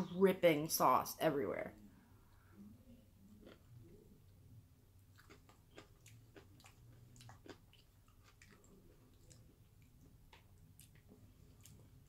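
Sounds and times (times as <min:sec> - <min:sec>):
faint close-up chewing: 0:02.2 - 0:12.0.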